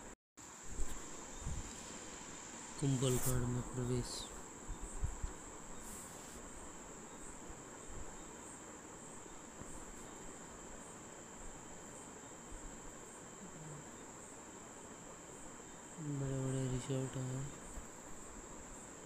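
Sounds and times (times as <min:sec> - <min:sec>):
low background noise: 0:00.0 - 0:19.0
insects singing: 0:00.5 - 0:19.0.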